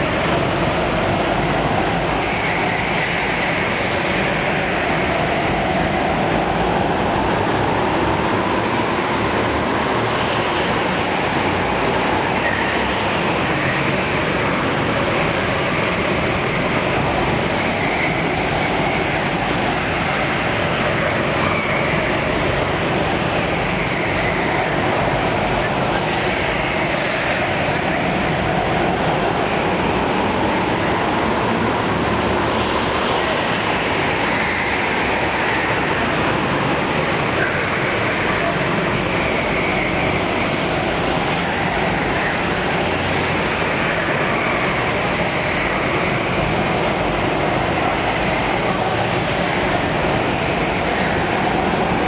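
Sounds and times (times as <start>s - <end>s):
go-kart engines droning: 0.0s - 52.0s.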